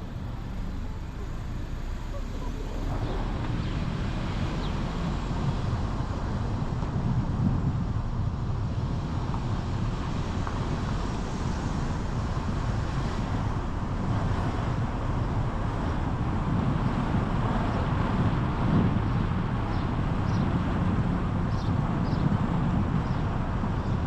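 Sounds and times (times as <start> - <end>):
car road and engine noise: 0.0 - 24.0
wind rumbling on microphone: 0.0 - 24.0.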